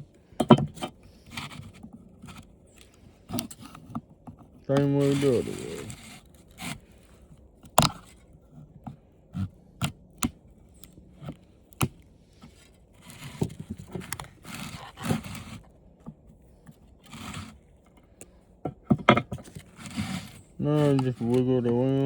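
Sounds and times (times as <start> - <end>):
plastic scraping and crinkling: 0.4 - 8.6, 10.4 - 22.0.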